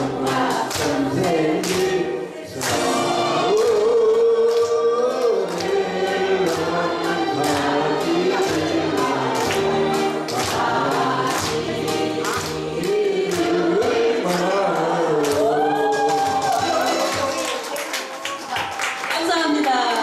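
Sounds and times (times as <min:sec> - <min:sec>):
voices singing together: 0:00.0 - 0:17.6.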